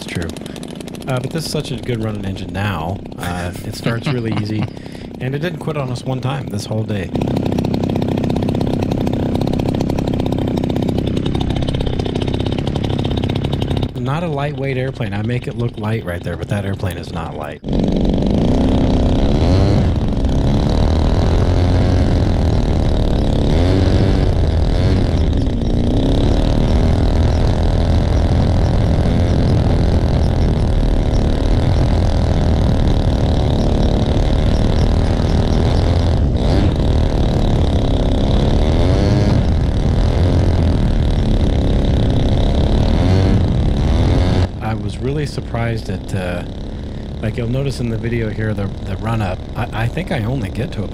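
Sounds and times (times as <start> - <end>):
model airplane engine running: 0.0 - 50.9.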